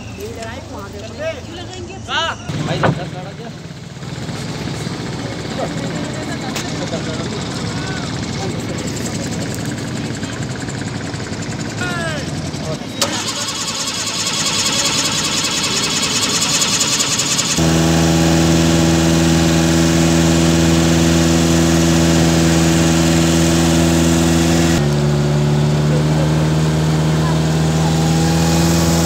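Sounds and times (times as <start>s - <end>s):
motorboat engine running: 0.0s - 29.0s.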